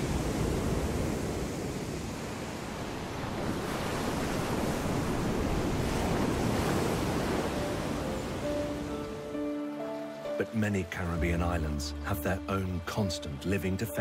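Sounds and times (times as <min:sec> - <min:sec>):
waves crashing: 0:00.0 - 0:14.0.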